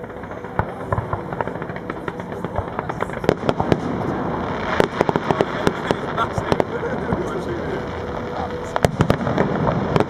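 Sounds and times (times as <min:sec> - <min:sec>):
fireworks popping and crackling: 0:00.0 - 0:10.0.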